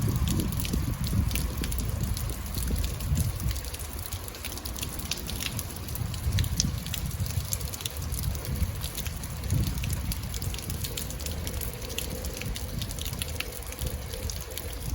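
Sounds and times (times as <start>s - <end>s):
raindrops ticking: 0.0s - 14.9s.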